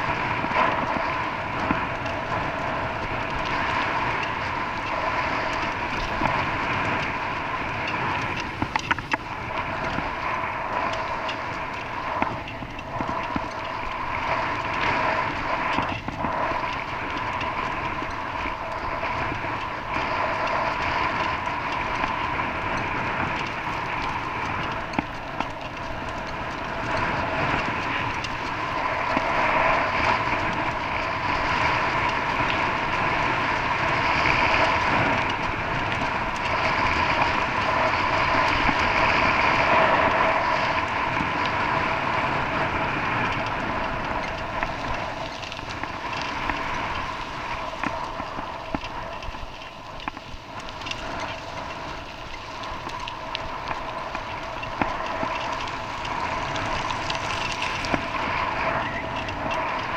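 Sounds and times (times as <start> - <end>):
vehicle running noise: 0.0 - 59.9.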